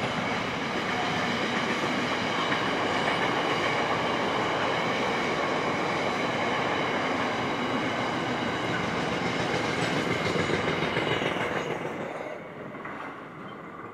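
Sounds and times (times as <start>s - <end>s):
train wheels rolling on rails: 0.0s - 13.9s.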